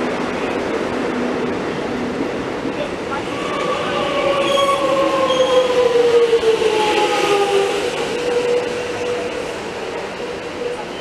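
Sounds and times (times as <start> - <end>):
wheels rumbling on rails: 0.0 - 11.0.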